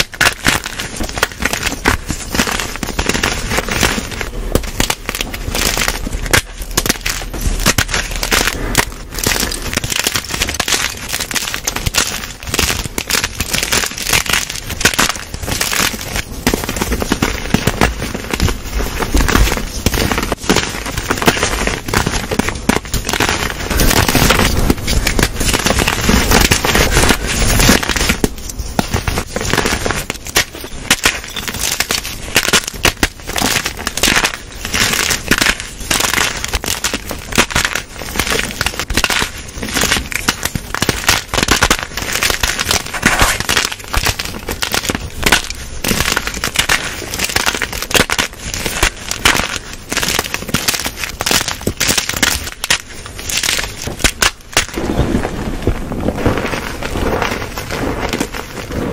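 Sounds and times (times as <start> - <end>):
chalk crunching and crackling: 0.0 - 58.9.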